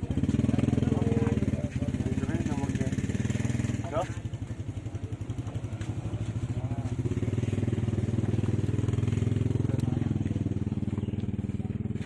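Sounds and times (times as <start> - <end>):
motorcycle engine puttering: 0.0 - 12.0.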